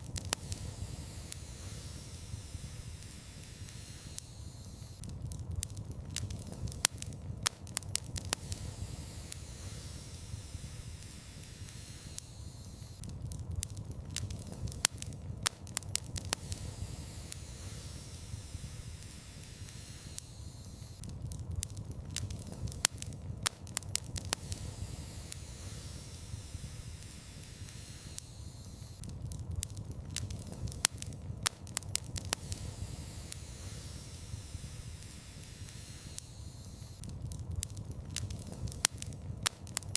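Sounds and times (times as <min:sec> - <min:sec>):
steady hiss and low rumble: 0:00.0 - 0:39.9
wood fire crackling and popping: 0:00.0 - 0:39.9.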